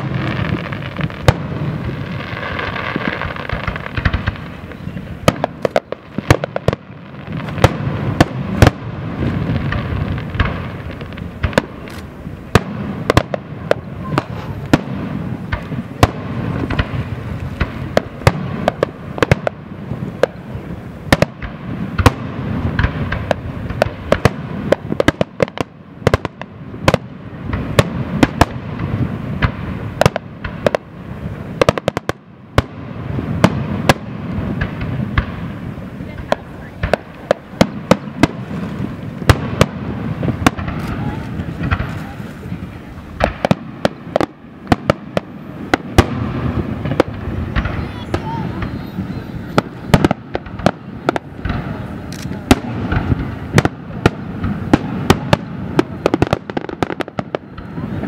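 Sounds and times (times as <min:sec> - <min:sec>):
fireworks bursting bangs: 0:00.0 - 0:58.0.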